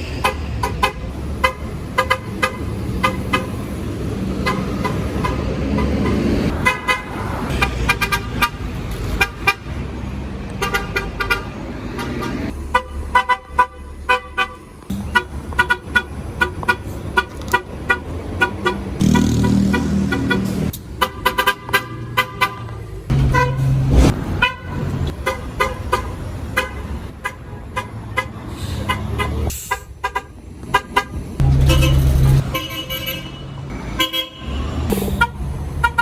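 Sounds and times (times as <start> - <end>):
bus engine rumble: 0.0 - 36.0
bus horn tooting: 0.2 - 3.8, 4.4 - 9.8, 10.6 - 36.0.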